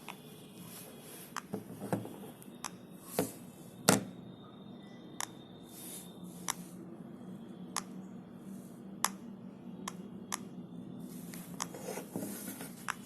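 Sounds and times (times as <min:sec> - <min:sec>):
faint high steady tone: 0:00.0 - 0:12.1.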